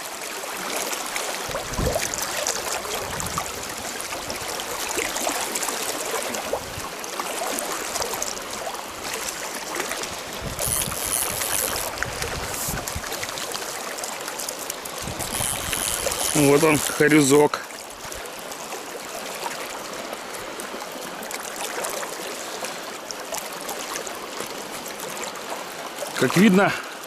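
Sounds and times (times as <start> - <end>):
shallow river rushing: 0.0 - 27.0.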